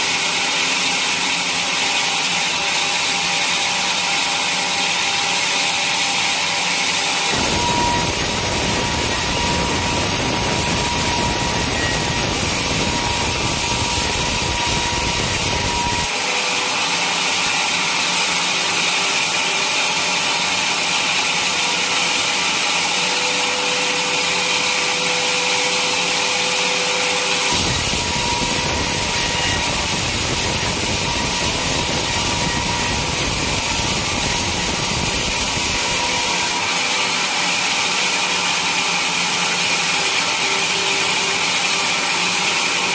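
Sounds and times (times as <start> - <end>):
saw cutting log rasping whine: 0.0 - 42.9.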